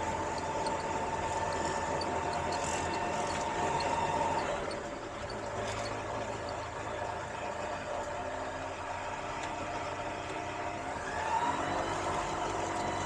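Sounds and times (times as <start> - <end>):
light aircraft engine running: 0.0 - 13.0.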